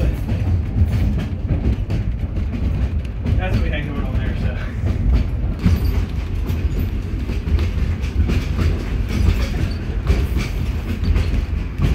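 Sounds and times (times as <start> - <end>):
train low rumble: 0.0 - 11.9
wheels clacking over track: 0.0 - 11.9.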